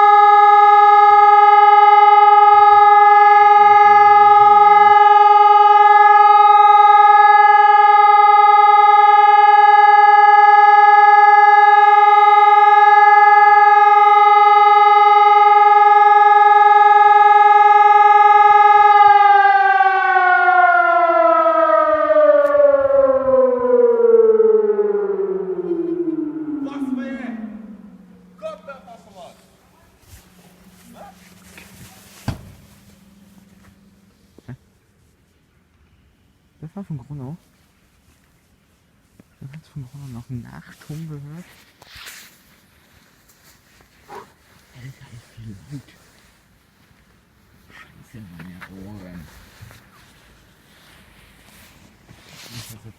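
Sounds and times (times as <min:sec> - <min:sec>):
warning siren: 0:00.0 - 0:34.6, 0:36.6 - 0:38.2, 0:39.4 - 0:46.9, 0:48.0 - 0:52.9.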